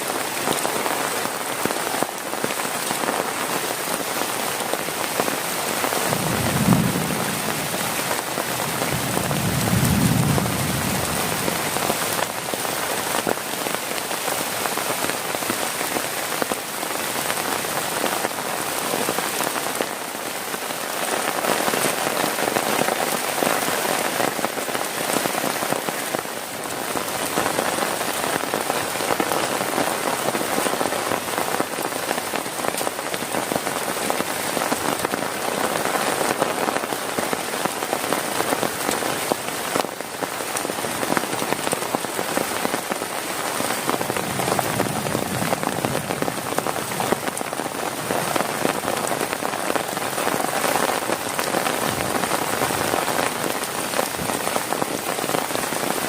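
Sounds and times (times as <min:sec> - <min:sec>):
heavy rain on plastic tarp: 0:00.0 - 0:56.0.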